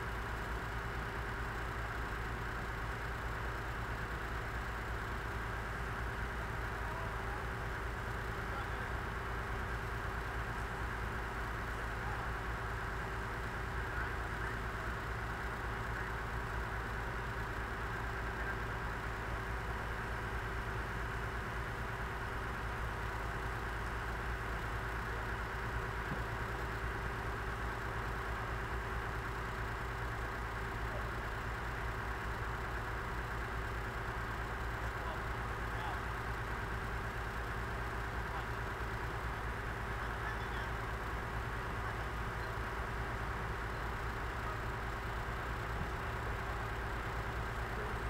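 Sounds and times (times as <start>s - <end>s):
heavy equipment engine idling: 0.0s - 48.0s.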